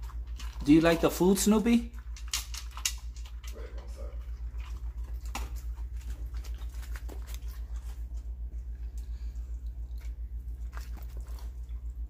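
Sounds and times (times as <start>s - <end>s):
dog crunching dry food: 0.0s - 9.0s, 9.6s - 12.0s.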